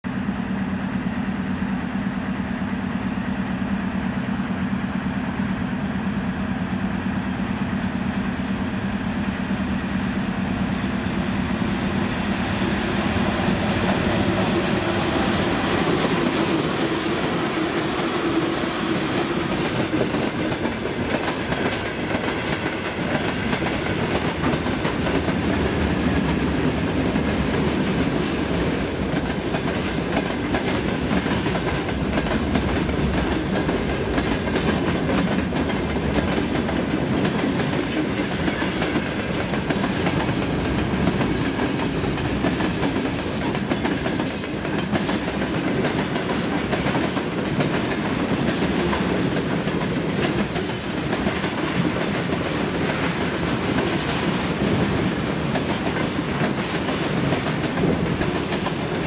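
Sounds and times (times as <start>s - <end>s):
electric locomotive hum: 0.1s - 59.0s
train rumble: 0.1s - 59.0s.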